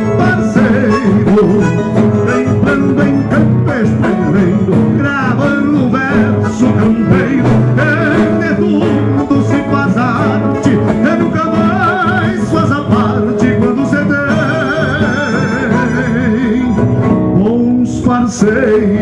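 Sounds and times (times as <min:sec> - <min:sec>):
accordion: 0:00.0 - 0:19.0
acoustic guitar: 0:00.0 - 0:19.0
man singing: 0:00.0 - 0:19.0
steady bass line: 0:00.0 - 0:19.0.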